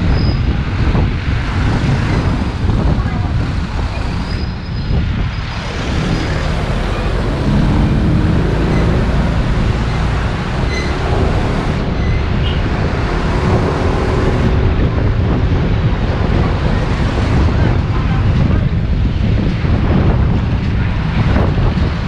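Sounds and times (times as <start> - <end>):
road noise: 0.0 - 22.0
wind rushing over microphone: 0.0 - 22.0.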